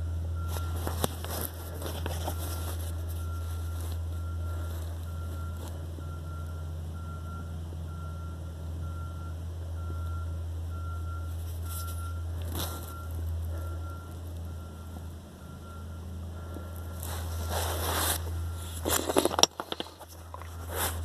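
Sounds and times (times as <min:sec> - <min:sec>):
reversing alarm beeping: 0:00.0 - 0:19.1.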